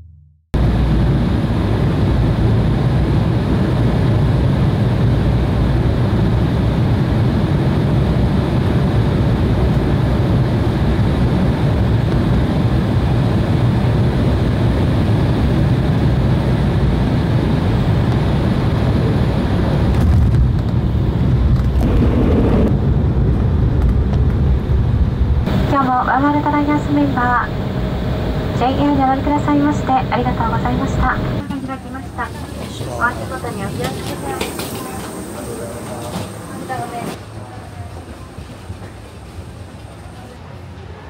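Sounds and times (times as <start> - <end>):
jet cabin engine roar: 0.6 - 41.0.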